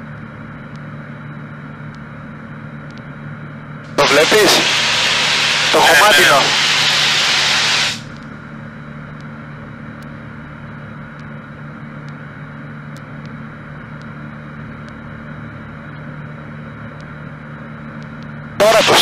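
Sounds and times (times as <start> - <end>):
aircraft engine drone in cabin: 0.0 - 19.0.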